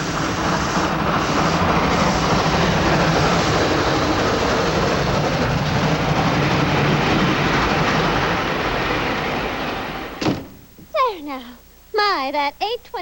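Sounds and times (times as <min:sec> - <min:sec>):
train passing: 0:00.0 - 0:10.5.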